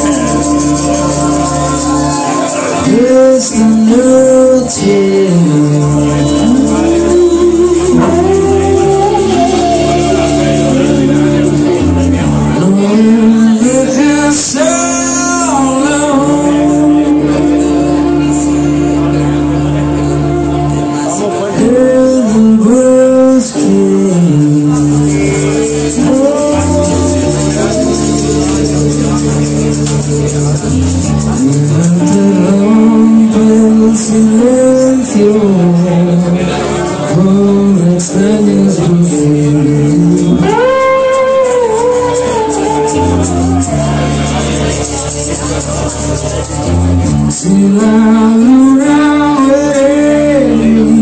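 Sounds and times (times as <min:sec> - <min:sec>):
bass guitar: 0:00.0 - 0:51.0
drums: 0:00.0 - 0:51.0
electric guitars: 0:00.0 - 0:51.0
person singing: 0:00.0 - 0:51.0
rock band playing live: 0:00.0 - 0:51.0.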